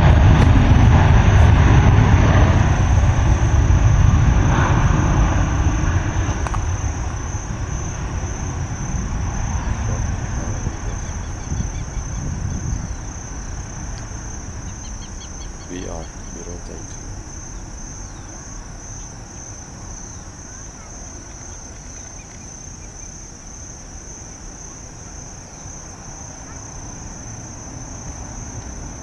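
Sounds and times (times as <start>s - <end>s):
crickets chirping: 0.0s - 29.0s
jet engines roaring: 0.0s - 29.0s.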